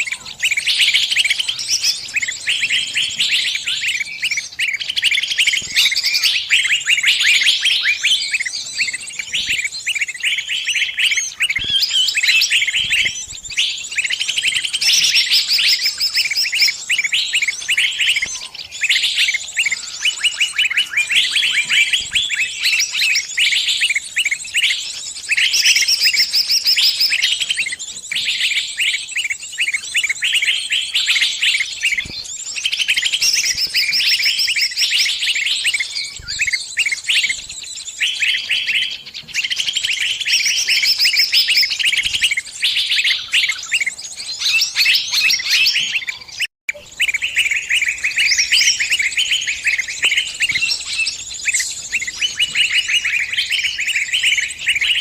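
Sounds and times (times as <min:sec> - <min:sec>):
bird distress chirps: 0:00.0 - 0:55.0.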